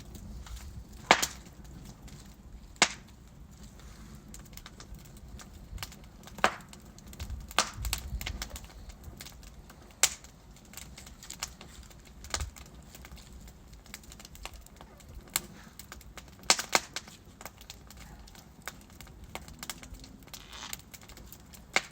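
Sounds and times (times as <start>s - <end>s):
logs crackling and popping: 0.0s - 21.9s
low rumble of flame: 0.0s - 21.9s.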